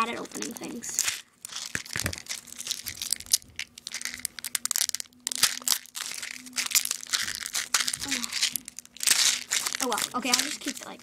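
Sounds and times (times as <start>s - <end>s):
faint steady hum: 0.0s - 11.0s
plastic packaging crinkling: 0.0s - 11.0s.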